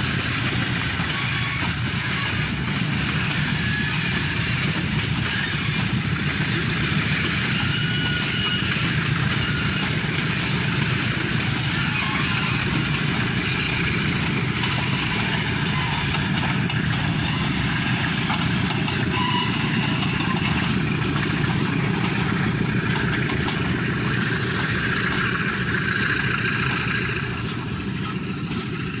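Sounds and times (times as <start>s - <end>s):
freight train rumbling past: 0.0s - 29.0s
wagon wheels clattering on rails: 0.0s - 29.0s.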